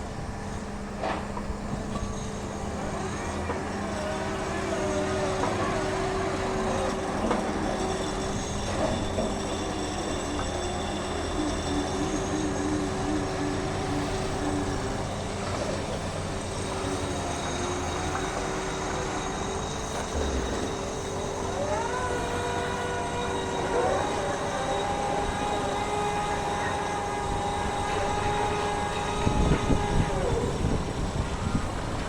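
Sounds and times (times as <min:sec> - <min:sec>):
heavy machinery din: 0:00.0 - 0:32.0
whining tones: 0:00.0 - 0:32.0.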